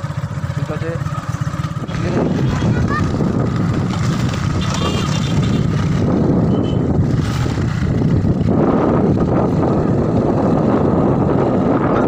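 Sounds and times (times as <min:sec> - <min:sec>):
motorbike engine: 0:00.0 - 0:12.0
road rumble: 0:00.0 - 0:12.0
wind rushing over microphone: 0:01.8 - 0:12.0.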